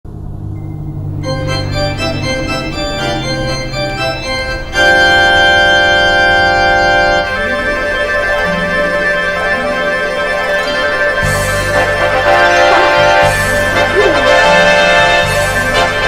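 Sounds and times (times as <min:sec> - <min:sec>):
organ-like keyboard music: 0:00.4 - 0:16.0.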